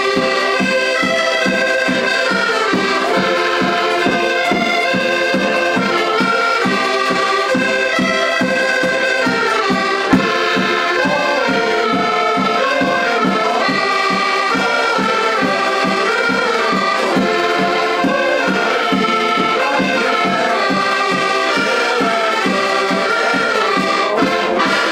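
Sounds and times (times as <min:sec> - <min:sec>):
button accordions playing folk tune: 0:00.0 - 0:24.9.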